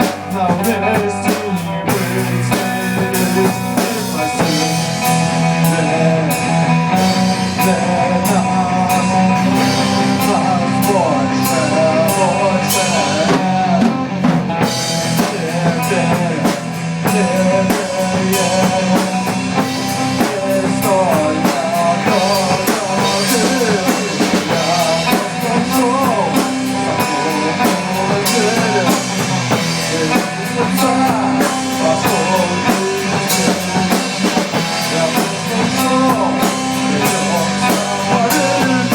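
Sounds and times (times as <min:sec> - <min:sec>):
rock music with drums and guitar: 0:00.0 - 0:38.9.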